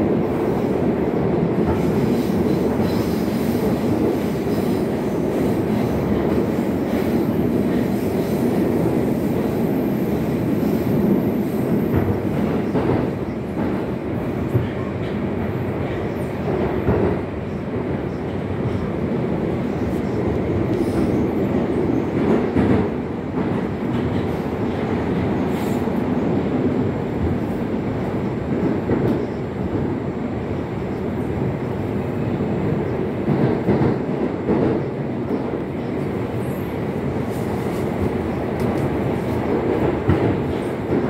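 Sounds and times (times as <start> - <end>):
metro train rumbling in tunnel: 0.0 - 41.0.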